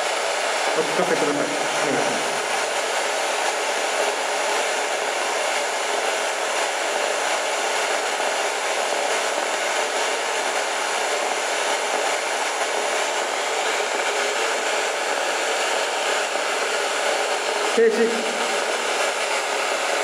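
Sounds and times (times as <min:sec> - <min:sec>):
spirit box white noise hiss: 0:00.0 - 0:20.0.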